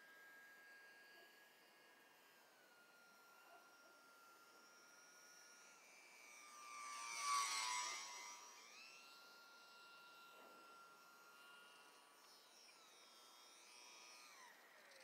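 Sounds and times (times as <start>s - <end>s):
model airplane motor whine: 0.0s - 15.0s.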